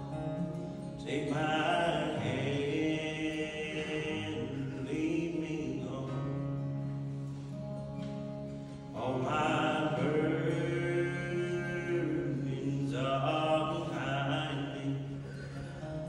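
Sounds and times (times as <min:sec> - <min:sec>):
acoustic guitar: 0:00.0 - 0:16.0
man singing slow song: 0:01.0 - 0:07.1, 0:08.9 - 0:16.0.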